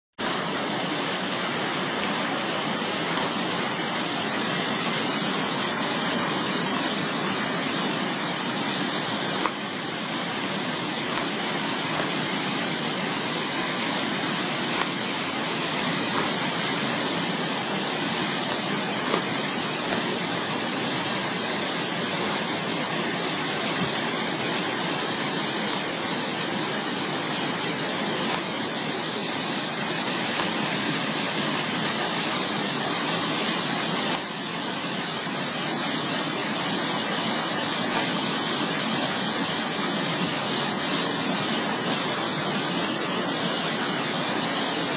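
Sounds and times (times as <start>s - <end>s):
floodwater rushing: 0.2s - 44.9s.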